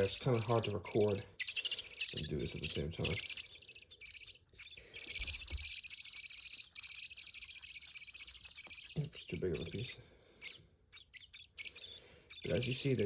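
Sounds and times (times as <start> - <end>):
baby birds cheeping: 0.0 - 13.0.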